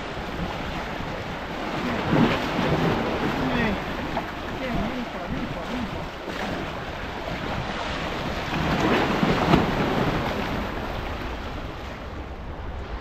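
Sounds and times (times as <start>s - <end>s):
sea waves breaking over rocks: 0.0s - 13.0s
wind buffeting microphone: 0.0s - 13.0s.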